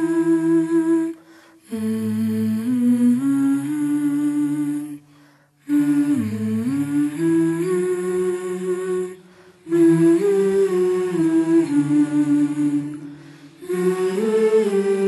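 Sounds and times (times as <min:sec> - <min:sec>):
person humming slow melody: 0:00.0 - 0:15.0.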